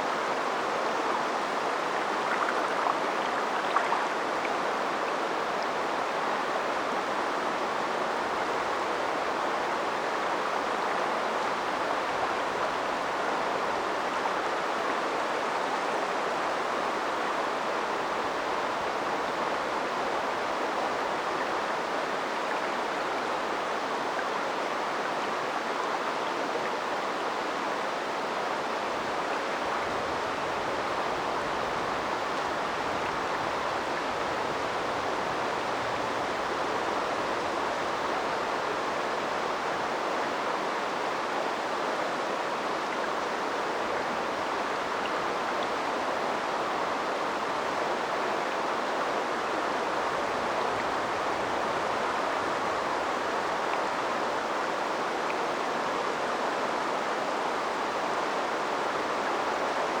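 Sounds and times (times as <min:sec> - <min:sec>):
river water flowing: 0:00.0 - 1:00.0.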